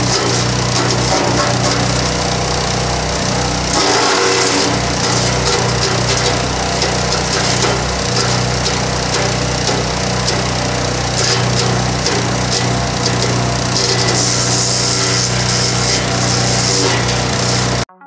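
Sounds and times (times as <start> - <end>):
wood chipper engine running: 0.0 - 17.9.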